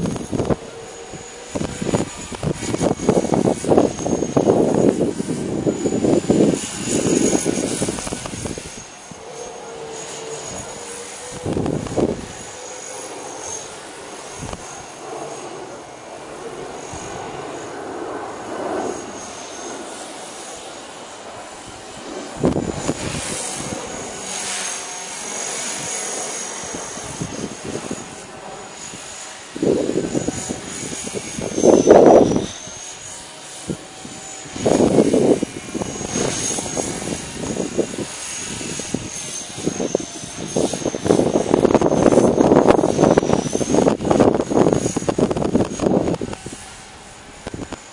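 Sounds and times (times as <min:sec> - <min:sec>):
rc helicopter motor whine: 0:00.0 - 0:47.9
wind buffeting microphone: 0:00.0 - 0:47.9.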